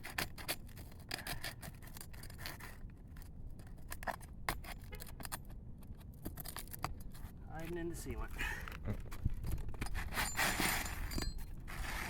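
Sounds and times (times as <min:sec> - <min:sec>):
hand tool scraping shingle: 0:00.0 - 0:07.8, 0:09.0 - 0:12.0.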